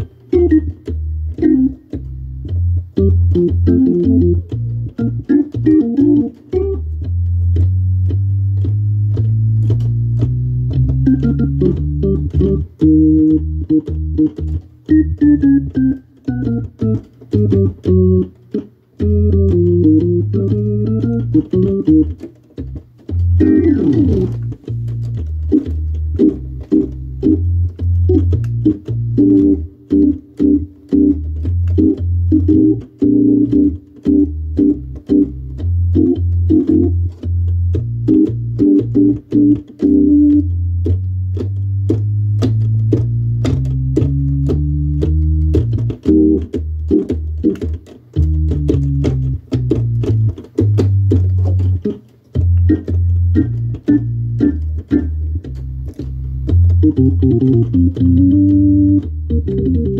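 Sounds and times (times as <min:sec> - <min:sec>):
organ playing chords: 0:00.0 - 0:59.9
walking bass line: 0:00.0 - 0:59.9.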